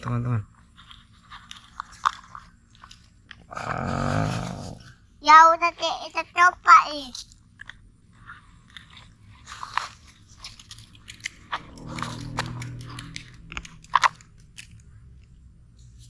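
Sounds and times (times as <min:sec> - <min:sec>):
gritty crunching and scraping: 0:00.5 - 0:04.8, 0:05.6 - 0:15.3.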